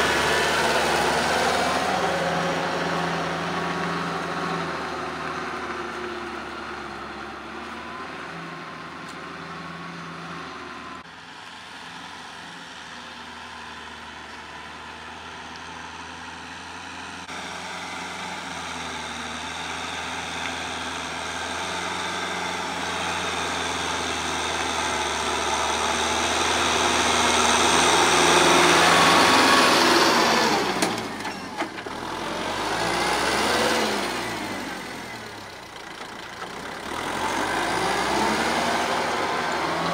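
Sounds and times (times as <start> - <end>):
rotary tiller working soil: 0.0 - 39.9
tractor diesel engine running: 0.0 - 39.9.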